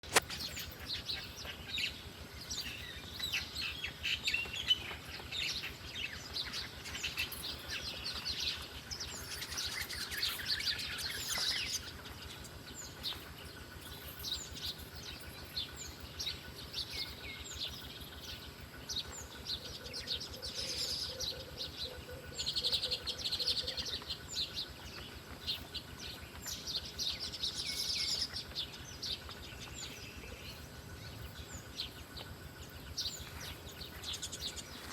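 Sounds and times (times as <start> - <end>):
wild birds chirping: 0.0 - 34.9.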